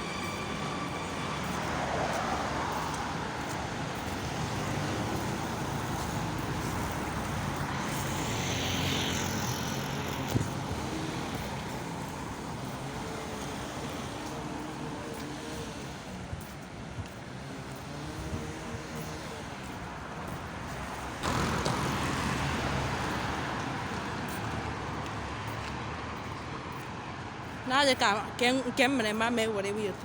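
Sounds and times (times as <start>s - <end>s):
hiss of cars passing: 0.0s - 26.2s
loud vehicles passing: 0.0s - 30.0s.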